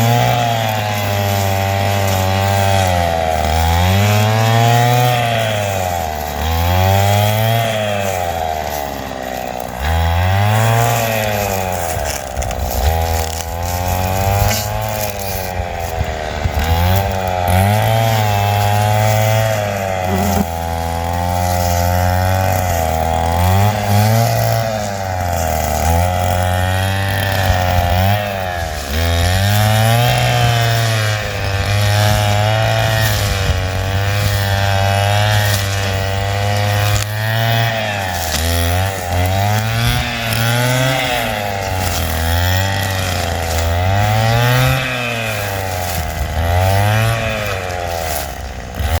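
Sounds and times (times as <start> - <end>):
brush cutter engine running hard: 0.0 - 49.0.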